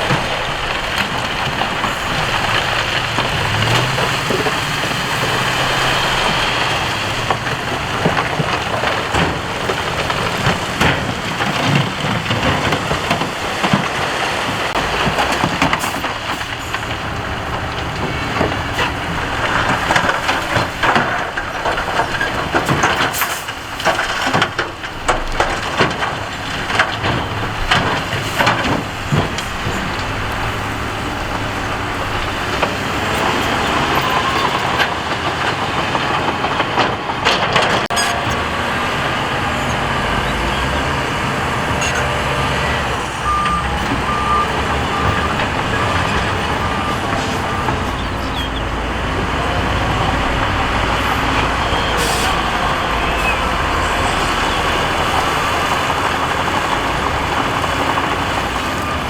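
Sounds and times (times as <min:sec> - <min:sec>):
gravel and rock crunching: 0:00.0 - 0:59.0
heavy machine engine under load: 0:00.0 - 0:59.0.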